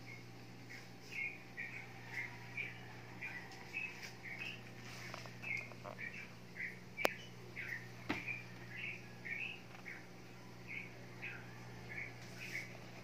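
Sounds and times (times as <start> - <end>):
small bird chirping: 0.0 - 13.0
steady low hum: 0.0 - 13.0.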